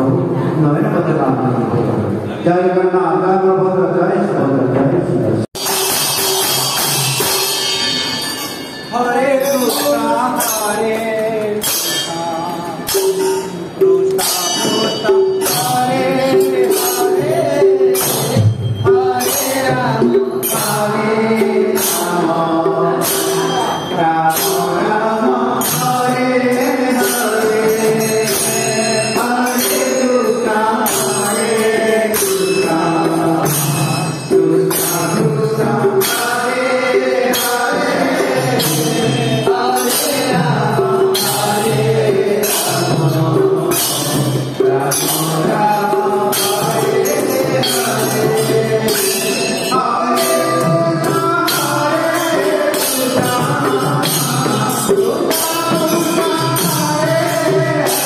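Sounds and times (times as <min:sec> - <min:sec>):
instrumental accompaniment: 0:04.7 - 0:58.0
percussion beat: 0:04.7 - 0:58.0
tambourine-like jingling: 0:05.6 - 0:58.0
voices singing: 0:08.9 - 0:58.0.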